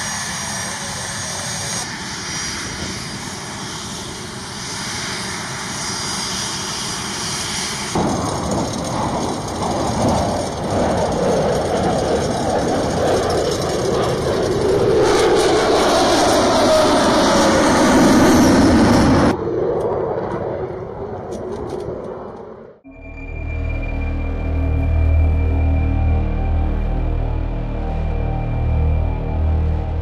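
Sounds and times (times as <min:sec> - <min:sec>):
jet engines rushing and whining: 0:00.0 - 0:30.0.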